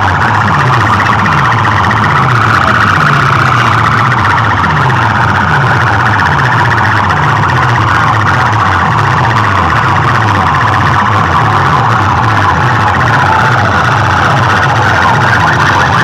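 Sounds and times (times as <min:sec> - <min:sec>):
distorted siren-like wail: 0:00.0 - 0:16.0.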